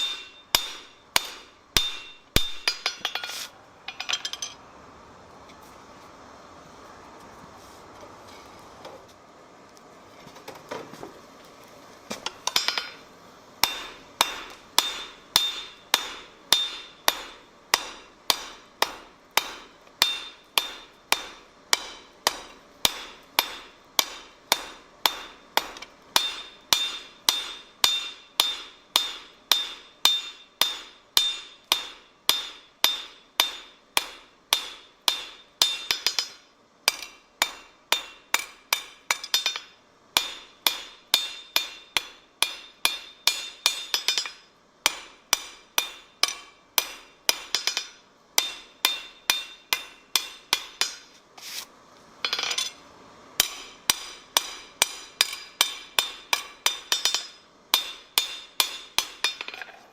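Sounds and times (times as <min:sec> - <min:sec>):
hammer striking metal on anvil: 0:00.0 - 0:04.6, 0:12.2 - 0:13.0, 0:13.6 - 0:51.1, 0:53.4 - 0:59.8.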